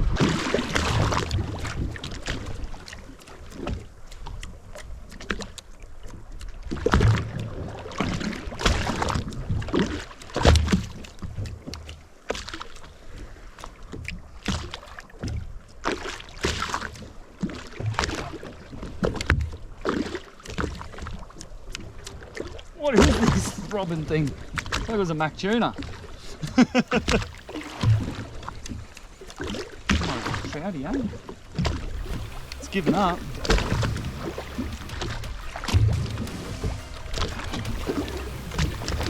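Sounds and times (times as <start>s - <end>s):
water sloshing against boat hull: 0.0s - 39.0s.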